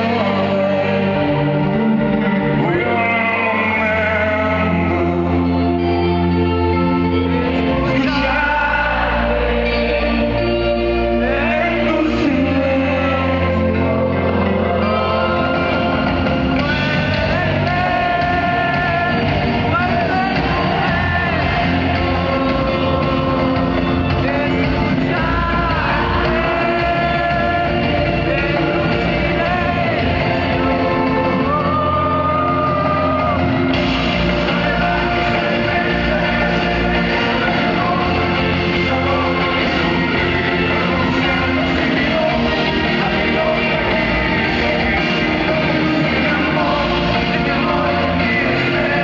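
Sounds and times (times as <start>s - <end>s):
bass: 0.0s - 49.0s
keyboard chords: 0.0s - 49.0s
person singing: 0.0s - 49.0s
rock band playing loudly: 0.0s - 49.0s.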